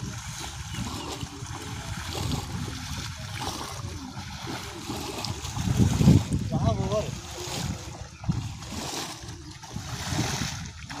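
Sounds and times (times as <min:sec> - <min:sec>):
shallow water sloshing and splashing: 0:00.0 - 0:11.0.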